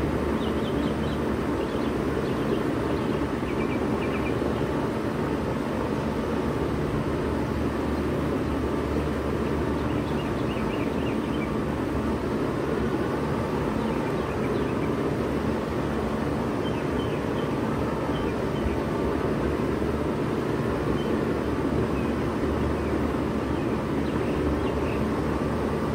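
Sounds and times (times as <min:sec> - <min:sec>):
compressor hum: 0:00.0 - 0:25.9
fan rushing: 0:00.0 - 0:25.9.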